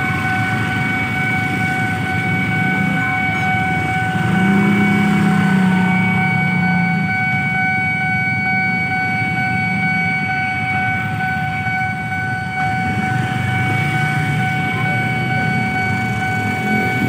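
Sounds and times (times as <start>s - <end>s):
level-crossing alarm high tone: 0.0s - 17.0s
motorcycle engines idling: 0.0s - 17.0s.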